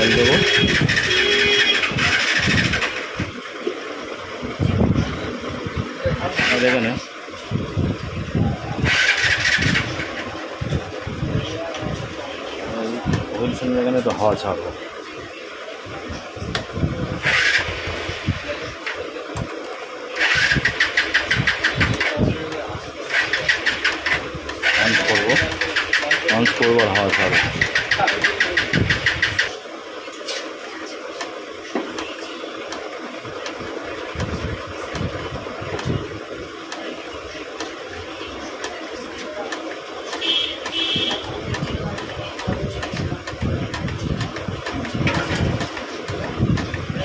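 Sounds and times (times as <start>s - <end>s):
engine-like running noise: 0.0s - 47.0s.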